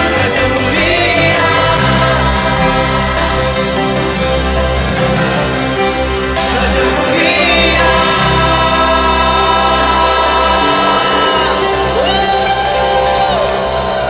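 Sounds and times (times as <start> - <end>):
band and keyboard accompaniment: 0.0 - 14.0
person singing: 0.0 - 14.0.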